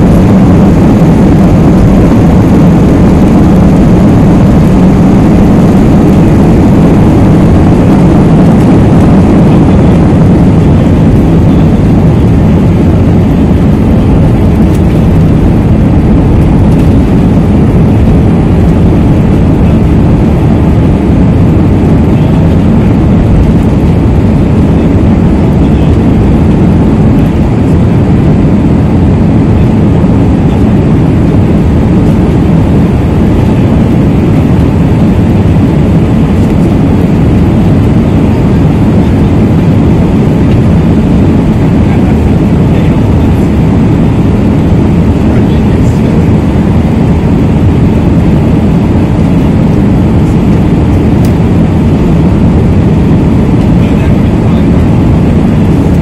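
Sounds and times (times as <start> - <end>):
jet engines and rushing air: 0.0 - 56.0.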